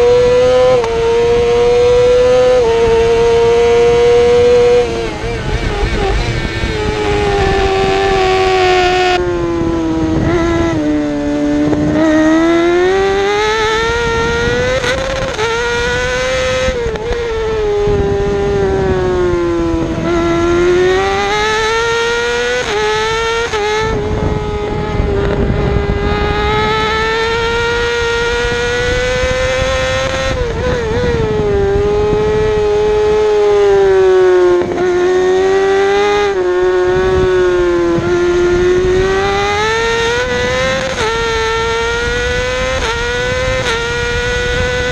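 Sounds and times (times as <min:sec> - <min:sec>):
high-revving motorcycle engine: 0:00.0 - 0:44.9
wind rush: 0:00.0 - 0:44.9.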